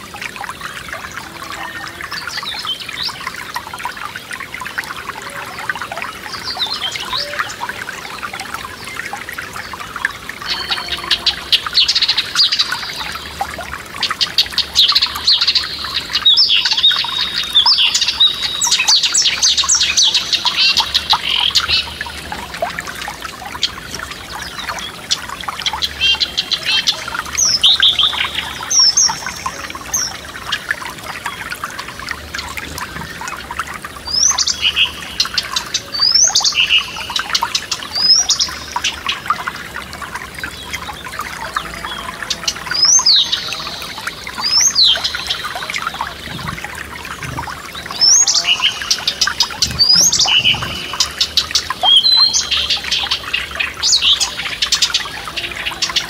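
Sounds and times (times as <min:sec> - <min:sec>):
stream trickling: 0:00.0 - 0:56.0
songbirds singing: 0:00.2 - 0:56.0.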